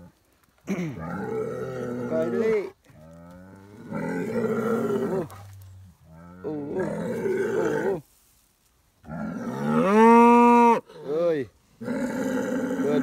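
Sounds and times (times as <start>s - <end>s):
bull bellowing: 0.7s - 8.0s, 9.0s - 13.0s.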